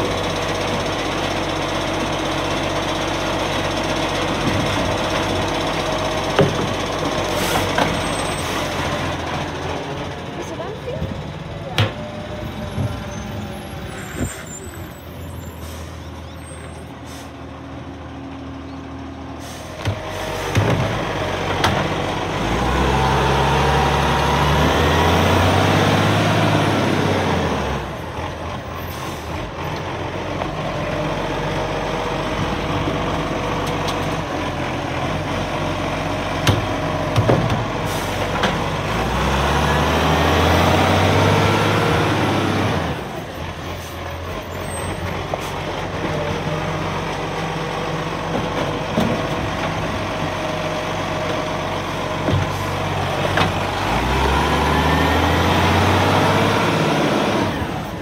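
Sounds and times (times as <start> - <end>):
garbage truck engine revving: 0.0 - 58.0.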